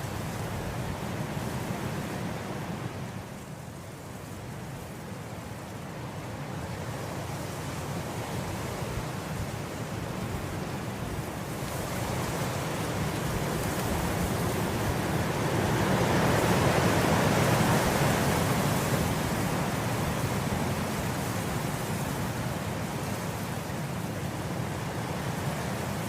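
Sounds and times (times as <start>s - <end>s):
wind blowing through grass: 0.0s - 26.0s.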